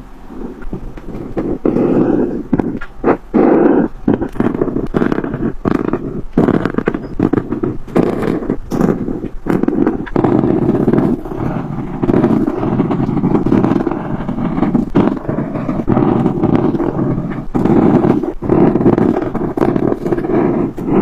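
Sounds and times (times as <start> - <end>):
colouring tool scrubbing on paper: 1.1 - 21.0.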